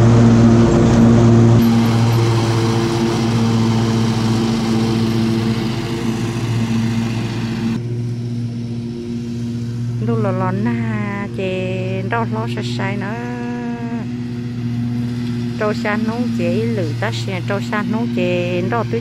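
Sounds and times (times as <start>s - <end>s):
engine hiss: 0.0s - 10.4s, 11.2s - 19.0s
mower engine hum: 0.0s - 19.0s.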